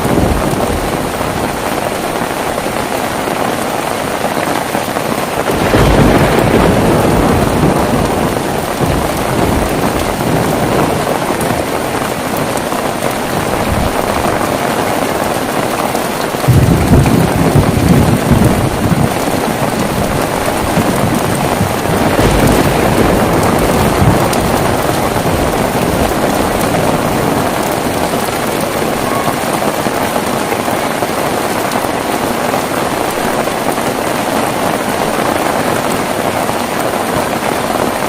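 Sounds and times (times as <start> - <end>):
heavy rain falling: 0.0 - 38.0
thunder rumbling: 0.0 - 38.0.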